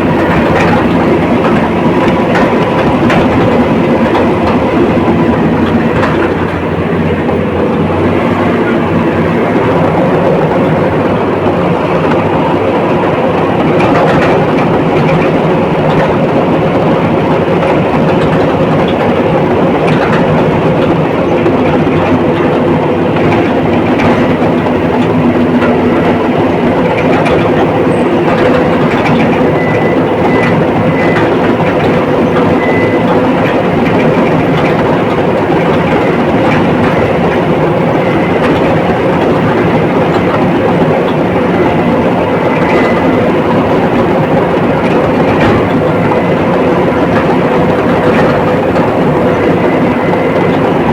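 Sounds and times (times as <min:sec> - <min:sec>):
diesel engine running: 0:00.0 - 0:50.9
steel tracks clanking: 0:00.0 - 0:50.9.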